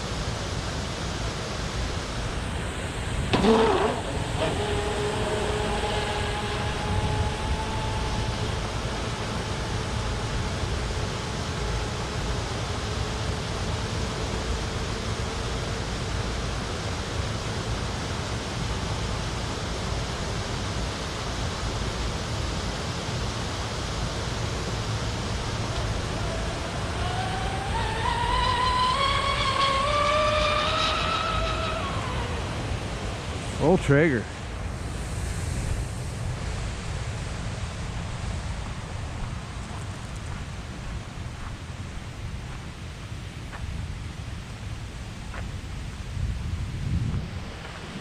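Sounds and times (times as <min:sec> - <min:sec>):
high whine of boat motors: 0:00.0 - 0:48.0
steady rushing noise: 0:00.0 - 0:48.0.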